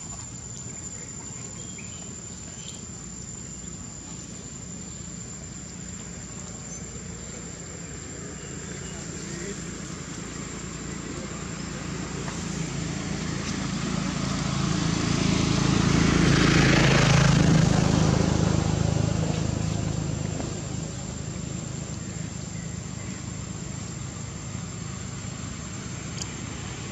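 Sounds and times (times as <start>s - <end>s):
motor vehicle passing by: 3.6s - 26.9s.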